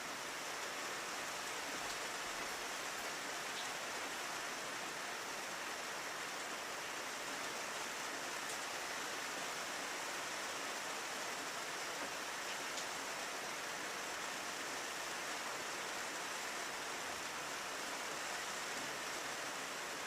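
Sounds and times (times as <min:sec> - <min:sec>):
rain on a window: 0:00.0 - 0:20.0.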